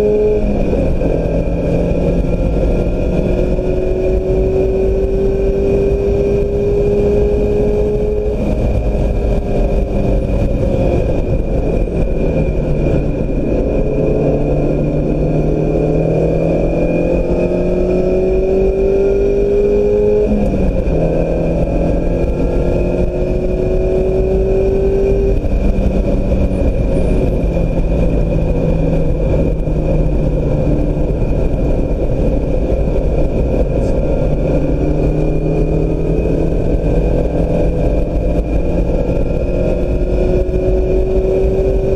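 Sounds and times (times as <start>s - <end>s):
car engine accelerating: 0.0s - 41.9s
steady high whine: 0.0s - 41.9s
wind and road rumble: 0.0s - 41.9s.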